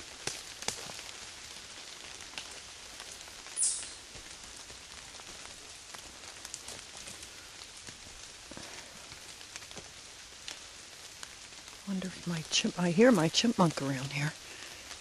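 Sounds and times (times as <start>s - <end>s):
rain pattering on leaves: 0.0s - 15.0s.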